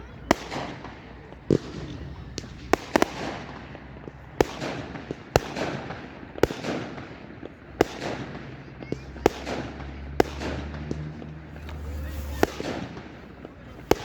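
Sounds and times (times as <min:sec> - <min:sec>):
fireworks bangs with crackle: 0:00.0 - 0:14.0.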